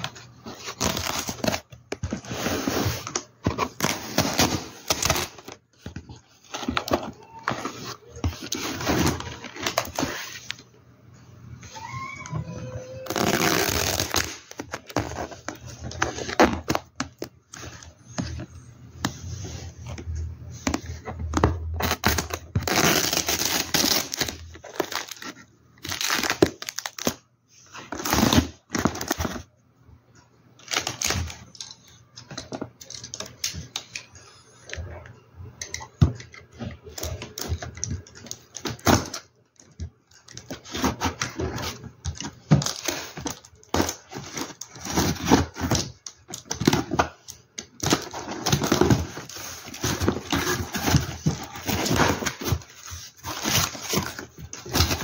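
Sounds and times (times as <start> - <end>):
cardboard and paper rustling: 0.0 - 10.7, 11.7 - 29.5, 35.9 - 55.0.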